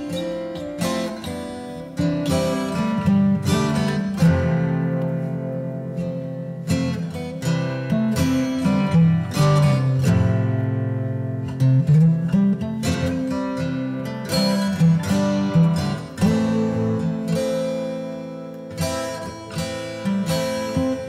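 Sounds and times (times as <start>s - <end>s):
acoustic guitar melody: 0.0s - 21.0s.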